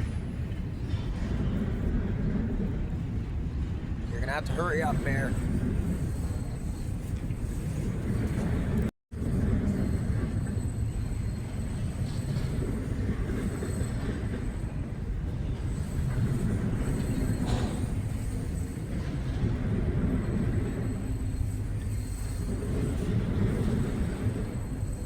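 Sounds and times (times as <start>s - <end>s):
train railcars rumbling by: 0.0s - 25.0s.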